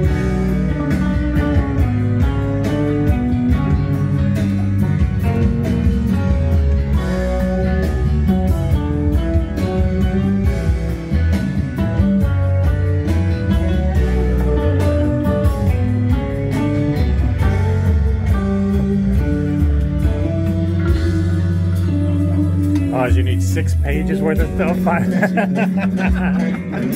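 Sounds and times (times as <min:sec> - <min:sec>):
music with strong bass line: 0:00.0 - 0:26.9.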